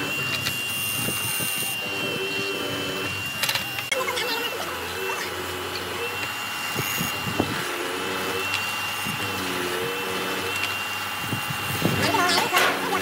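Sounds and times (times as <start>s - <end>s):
mortiser motor humming and whining: 0.0s - 13.0s.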